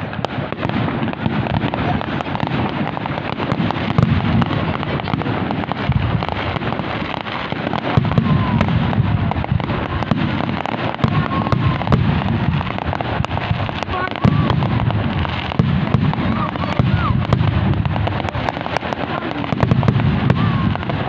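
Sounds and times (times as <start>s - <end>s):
fireworks crackling and booming: 0.0s - 21.0s.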